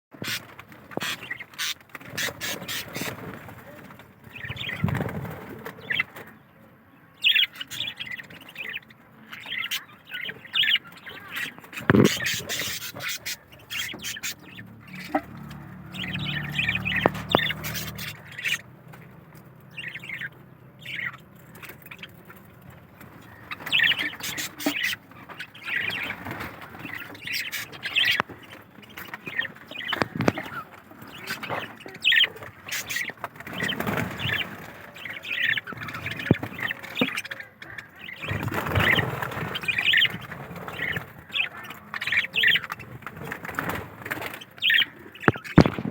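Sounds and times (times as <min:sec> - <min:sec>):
budgerigars chirping and chattering: 0:00.2 - 0:45.9.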